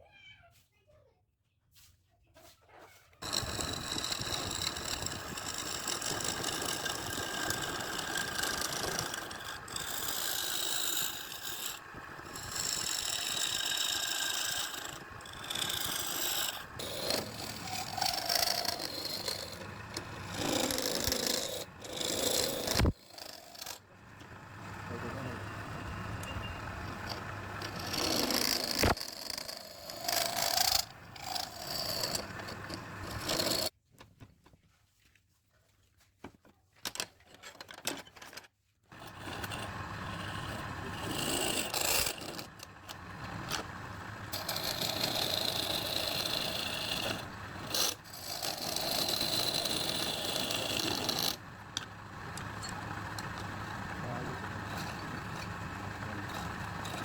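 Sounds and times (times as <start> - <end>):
lathe running: 3.2 - 33.7, 39.0 - 57.0
tool scraping spinning wood: 3.2 - 33.8, 38.9 - 57.0.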